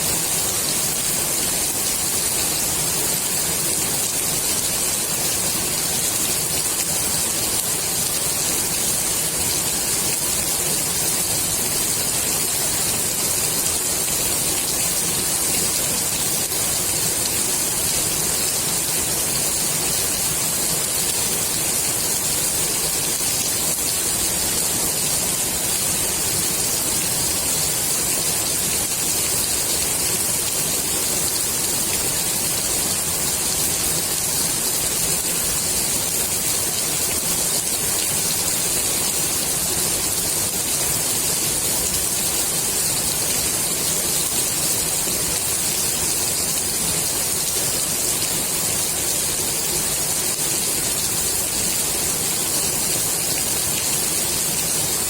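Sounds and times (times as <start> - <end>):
rain falling on pool water: 0.0 - 55.0.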